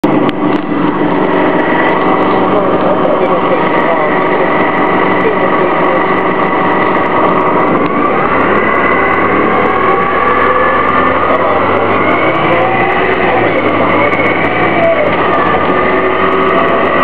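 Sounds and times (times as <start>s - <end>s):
bus engine droning: 0.0s - 17.0s
transmission whine: 0.0s - 17.0s.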